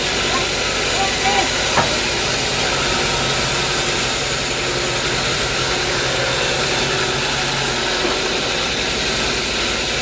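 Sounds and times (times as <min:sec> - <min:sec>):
sawmill machinery hum and hiss: 0:00.0 - 0:10.0.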